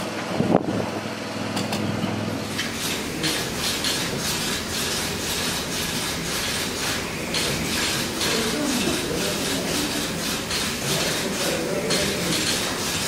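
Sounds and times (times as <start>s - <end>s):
steady machine hum: 0.0s - 13.0s
steam engine hissing chuff: 2.5s - 13.0s.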